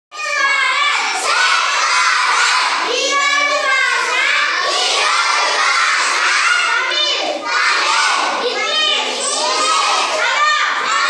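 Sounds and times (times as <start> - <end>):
children chanting in unison: 0.2 - 11.0.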